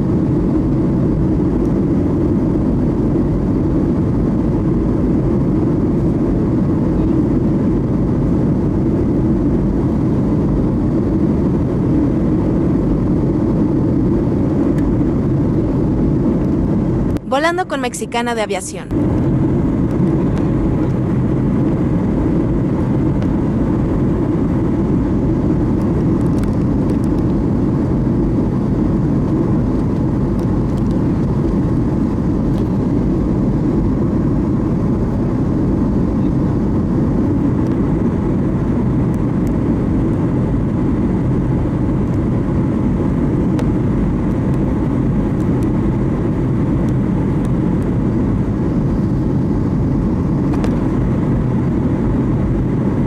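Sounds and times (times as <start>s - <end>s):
airliner cabin drone: 0.0s - 53.0s.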